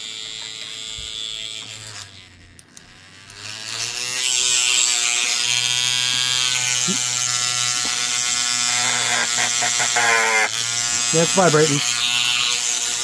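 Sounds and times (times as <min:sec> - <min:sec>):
paint shaker motor buzzing: 0:00.0 - 0:13.0.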